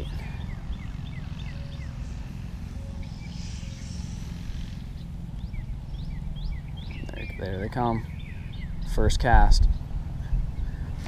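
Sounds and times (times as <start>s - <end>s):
birds chirping: 0.0s - 11.0s
wind rumbling on microphone: 0.0s - 11.0s.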